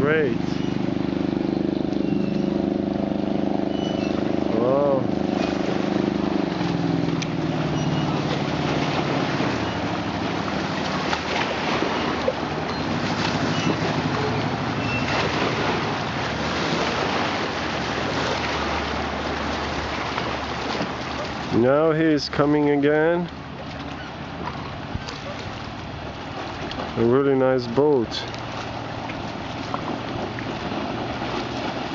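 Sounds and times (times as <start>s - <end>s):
speedboat engine passing: 0.0s - 31.9s.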